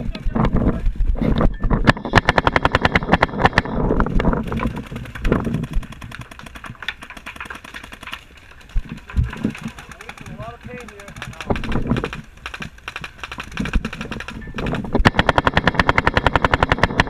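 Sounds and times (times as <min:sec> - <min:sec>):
paintball guns rapid firing: 0:01.9 - 0:17.0.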